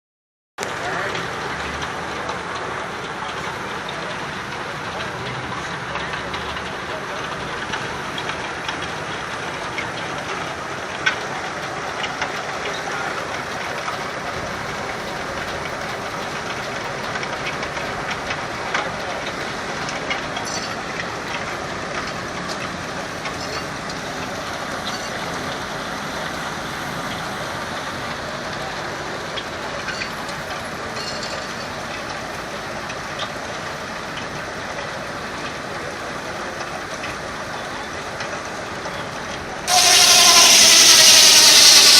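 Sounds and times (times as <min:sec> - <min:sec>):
steam-powered sawmill running: 0:00.6 - 0:41.9.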